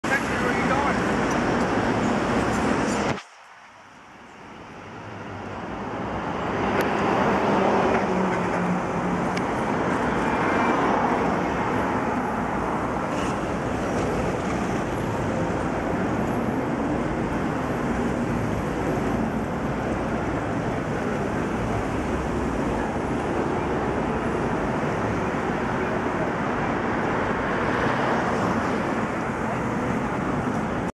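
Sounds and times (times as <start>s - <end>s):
city traffic rumble and hiss: 0.0s - 30.9s.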